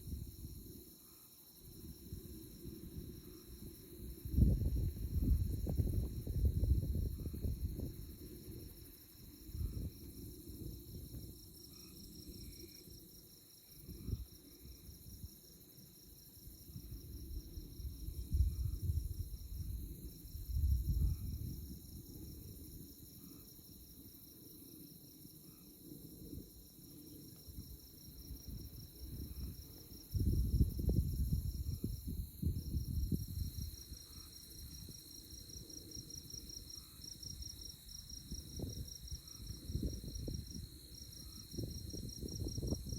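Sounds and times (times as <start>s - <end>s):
wind rumble on microphone: 0.0s - 0.9s, 1.6s - 23.8s, 25.8s - 42.9s
high insect drone: 0.0s - 42.9s.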